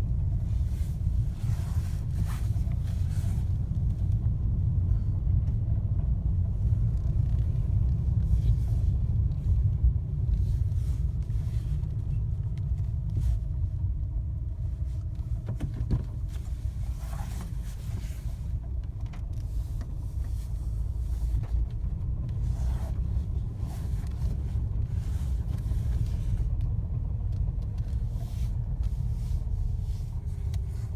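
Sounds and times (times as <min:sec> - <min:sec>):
car engine low rumble: 0:00.0 - 0:30.9.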